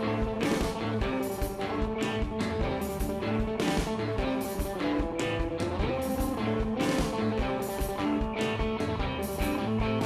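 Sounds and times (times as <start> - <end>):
electric guitar rock music: 0.0 - 10.0
steady drum beat: 0.0 - 10.0.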